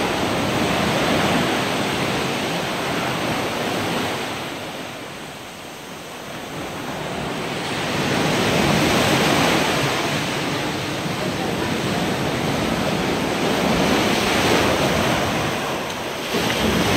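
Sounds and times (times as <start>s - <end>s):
ocean surf breaking on beach: 0.0s - 16.9s.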